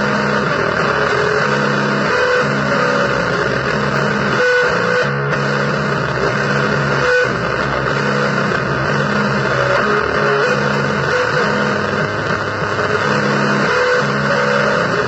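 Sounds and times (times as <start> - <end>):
distorted electric guitar blues: 0.0 - 15.0.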